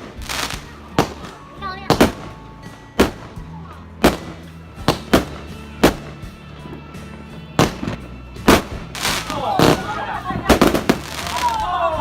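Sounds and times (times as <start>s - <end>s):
fireworks bangs: 0.0s - 11.8s
music with low notes: 0.0s - 12.0s.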